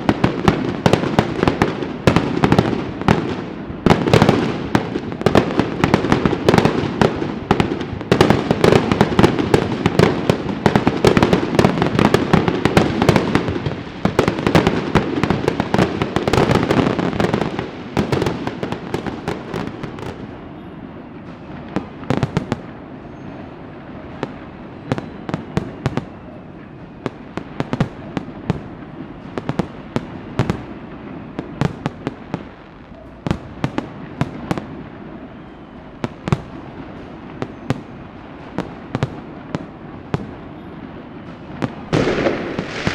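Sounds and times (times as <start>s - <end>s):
firecrackers and fireworks banging: 0.0s - 42.9s.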